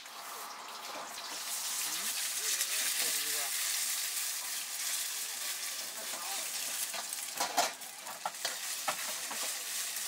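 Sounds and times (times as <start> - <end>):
oil sizzling in a wok: 0.0 - 10.0.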